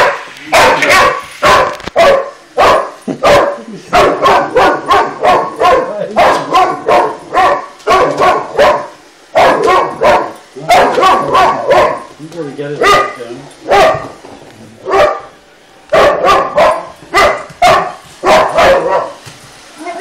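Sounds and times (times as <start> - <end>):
dog barking loudly: 0.0 - 12.1, 12.8 - 14.2, 14.8 - 19.2.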